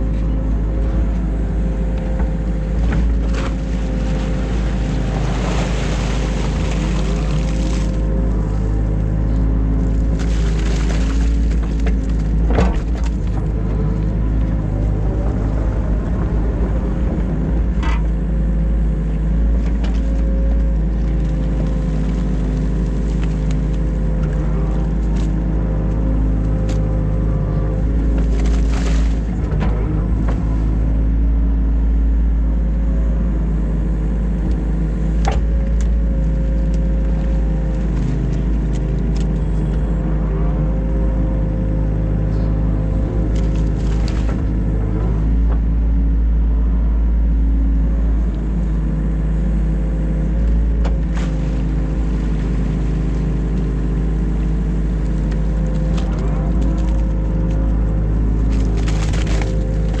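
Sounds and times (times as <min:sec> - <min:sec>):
diesel excavator engine running: 0:00.0 - 1:00.0.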